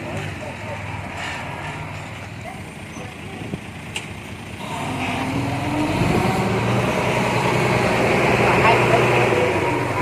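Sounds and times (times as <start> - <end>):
diesel engine of machinery running: 0.0 - 10.0.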